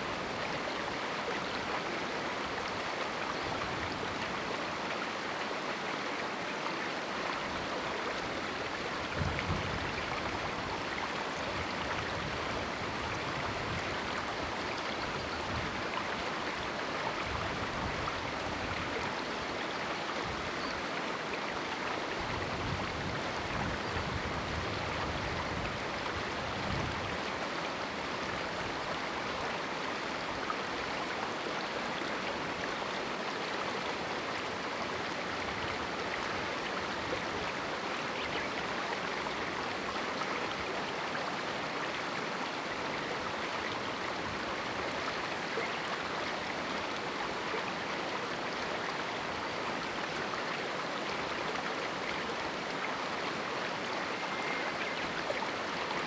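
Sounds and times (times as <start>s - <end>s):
river flowing over rocks: 0.0s - 56.0s.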